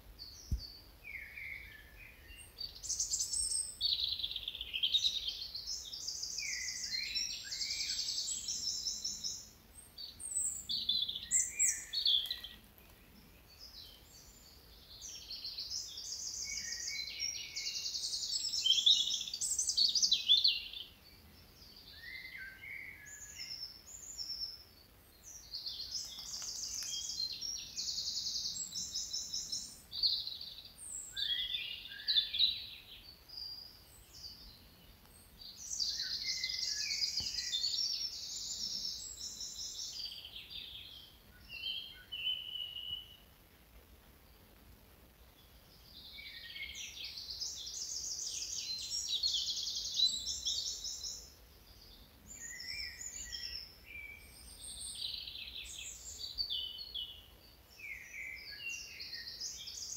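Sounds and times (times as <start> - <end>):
birds singing trills: 0.2 - 43.3, 45.2 - 59.9.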